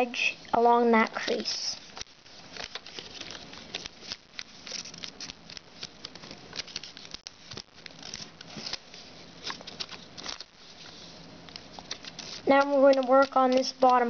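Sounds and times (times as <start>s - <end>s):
paper rustling and crackling: 1.2s - 14.0s.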